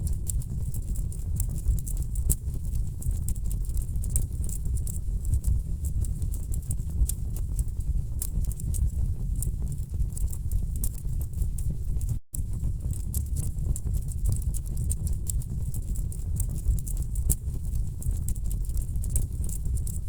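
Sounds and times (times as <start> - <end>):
low rumble of burning logs: 0.0 - 20.0
wood fire crackling and popping: 0.1 - 20.0.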